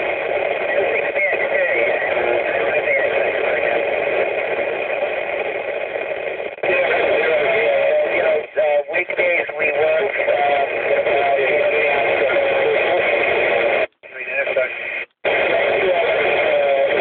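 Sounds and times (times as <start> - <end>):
garbled radio voice tones: 0.0 - 5.8, 6.5 - 17.0
radio static hiss: 0.0 - 17.0.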